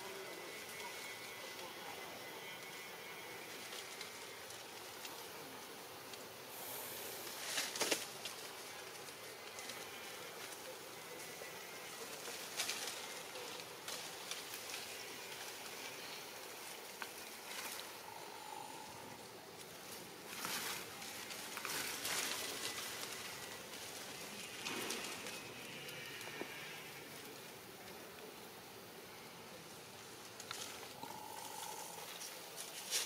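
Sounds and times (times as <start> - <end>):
leaves and stems rustling: 0.0 - 33.0
steady outdoor hiss: 0.0 - 33.0.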